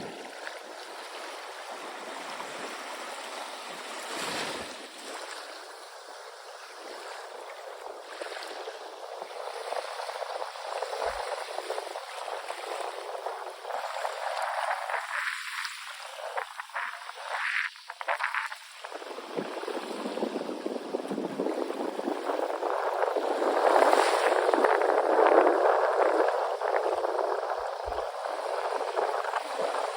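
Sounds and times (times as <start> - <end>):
small waves washing onto beach: 0.0 - 29.9.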